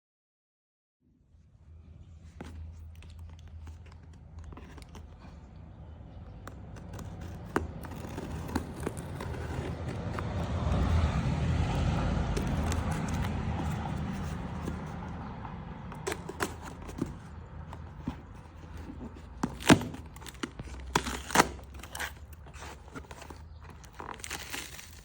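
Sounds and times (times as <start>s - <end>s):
packaging clicks and rustling: 2.4s - 5.4s, 6.4s - 15.2s, 15.8s - 25.0s.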